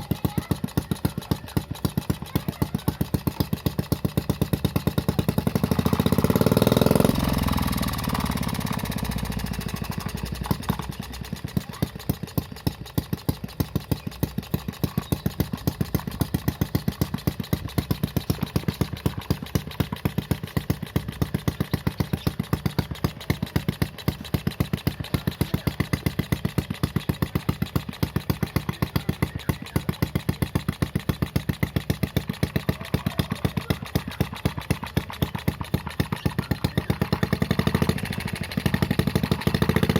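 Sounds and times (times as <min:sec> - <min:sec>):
small engine revving and idling: 0:00.0 - 0:39.9.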